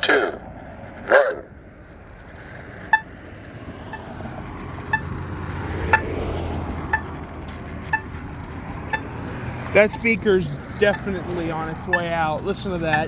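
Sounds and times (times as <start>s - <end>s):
crosswalk locator ticks: 0.0s - 13.0s
passing vehicle rumbling: 0.2s - 13.0s.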